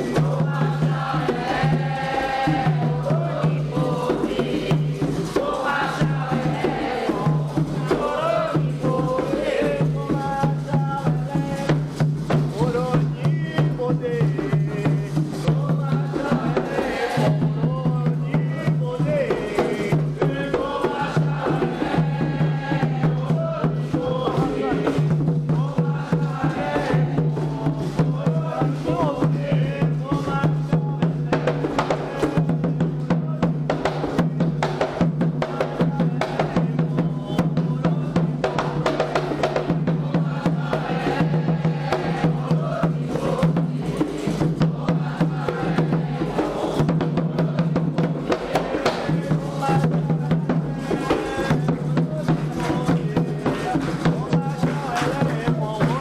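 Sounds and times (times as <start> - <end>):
group chanting a song: 0.0 - 56.0
hand drums beating fast rhythm: 0.0 - 56.0.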